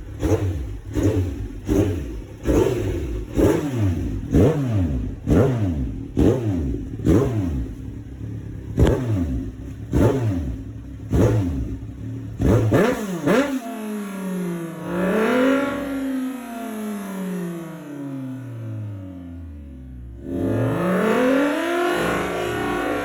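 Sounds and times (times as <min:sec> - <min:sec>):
engine revving in throttle blips: 0:00.0 - 0:23.0.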